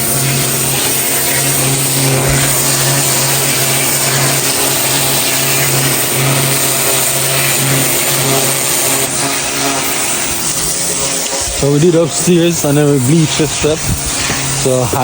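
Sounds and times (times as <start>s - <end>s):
pressure washer engine hum: 0.0s - 15.0s
water jet hissing on pavers: 0.0s - 15.0s.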